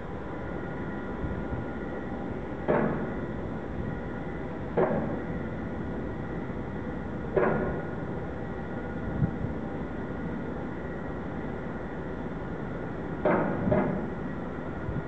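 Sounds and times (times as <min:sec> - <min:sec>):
machinery hum with faint tones: 0:00.0 - 0:15.0.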